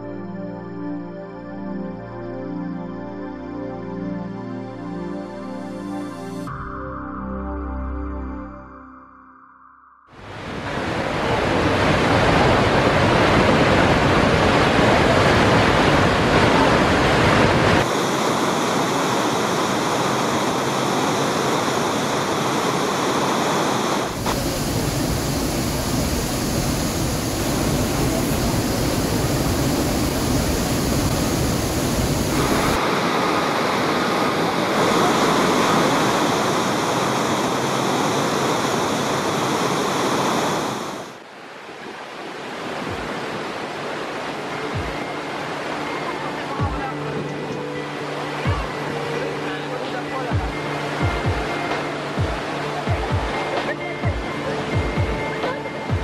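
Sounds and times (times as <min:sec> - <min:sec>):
waterfall rushing: 0:10.2 - 0:56.0.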